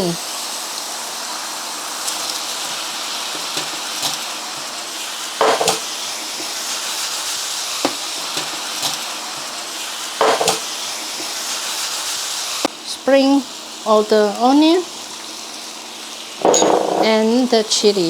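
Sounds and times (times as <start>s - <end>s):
chicken sizzling in hot oil: 0.0s - 16.4s.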